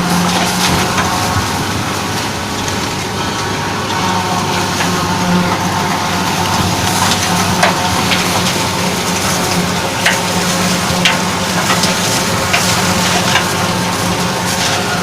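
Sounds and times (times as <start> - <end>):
harvester hum and crackling rush: 0.0 - 15.0.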